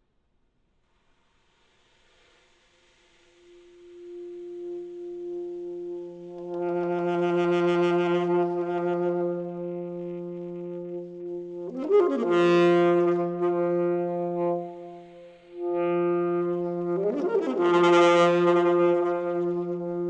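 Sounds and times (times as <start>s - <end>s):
steady low tone: 2.2s - 20.0s
alto saxophone long notes: 3.4s - 20.0s.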